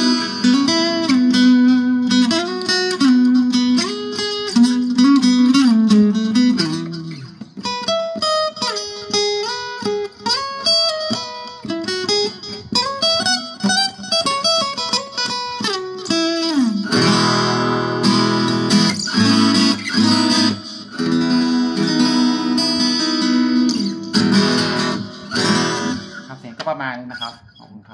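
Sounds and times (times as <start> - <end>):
acoustic guitar playing: 0.0 - 27.9.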